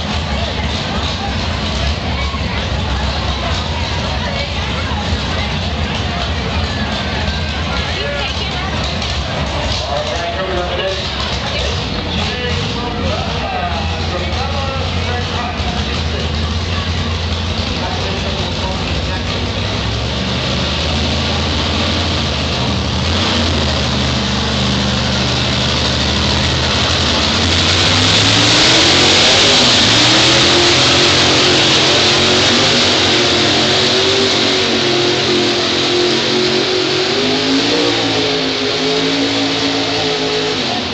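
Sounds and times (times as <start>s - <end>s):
truck engine under full throttle: 0.0s - 40.9s.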